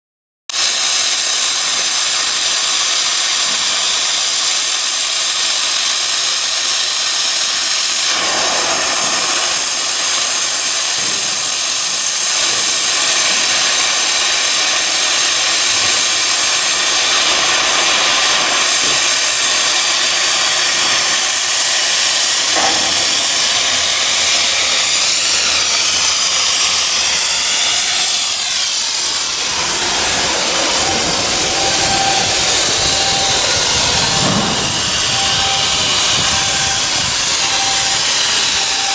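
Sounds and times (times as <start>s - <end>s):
loud steady hiss: 0.5s - 38.9s.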